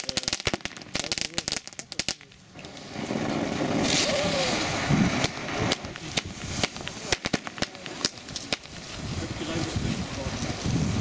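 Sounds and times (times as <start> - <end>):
fireworks cracks and bangs: 0.0 - 11.0
hissing crackling firework burst: 0.0 - 11.0.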